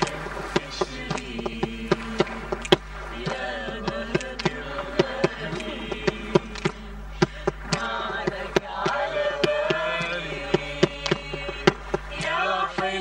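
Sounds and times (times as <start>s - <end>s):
group of voices singing: 0.0s - 13.0s
sharp percussive beats: 0.0s - 13.0s.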